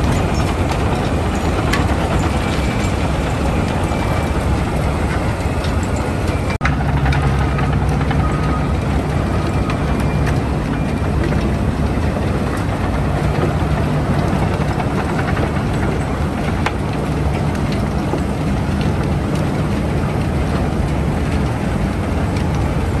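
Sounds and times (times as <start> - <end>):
heavy mechanical rumble: 0.0 - 23.0.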